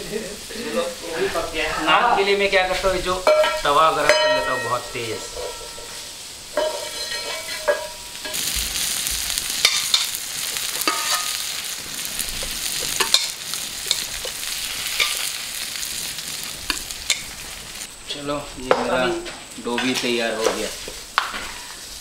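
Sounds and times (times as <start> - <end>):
food sizzling: 0.0 - 22.0.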